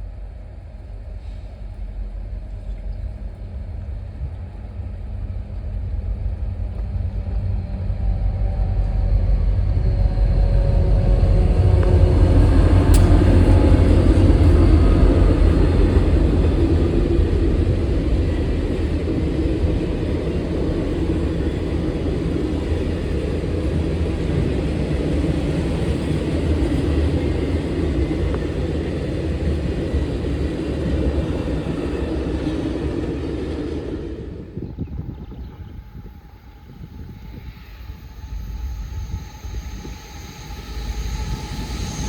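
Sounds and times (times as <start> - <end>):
train rumbling past: 0.0 - 42.0.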